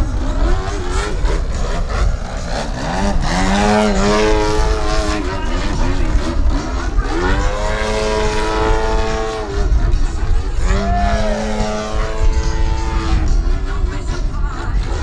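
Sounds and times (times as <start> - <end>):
model airplane engine revving: 0.0 - 15.0.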